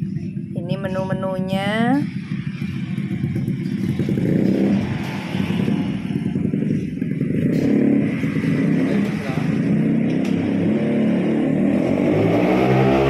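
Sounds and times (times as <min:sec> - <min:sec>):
motorcycle engine running: 0:00.0 - 0:13.0
road traffic: 0:00.0 - 0:13.0.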